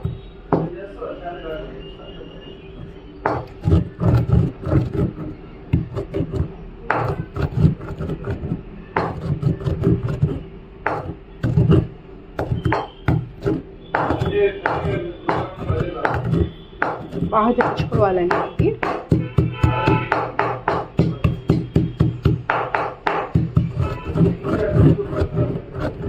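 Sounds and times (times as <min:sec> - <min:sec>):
pestle pounding in a mortar: 0:00.0 - 0:00.7, 0:03.2 - 0:26.0.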